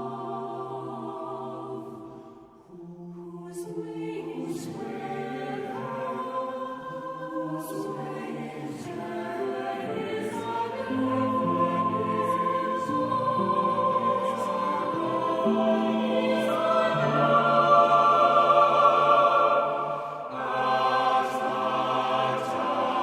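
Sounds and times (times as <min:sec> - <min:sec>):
voices singing long held notes: 0:00.0 - 0:23.0.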